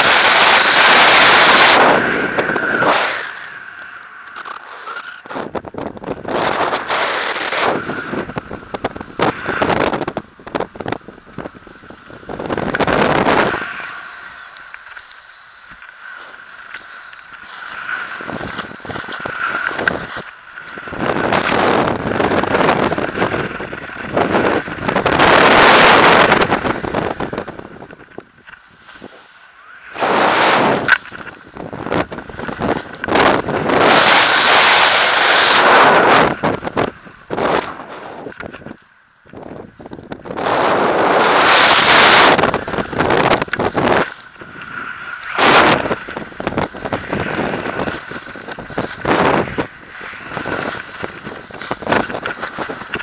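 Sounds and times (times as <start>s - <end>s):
airflow buffeting microphone: 0.0s - 53.0s.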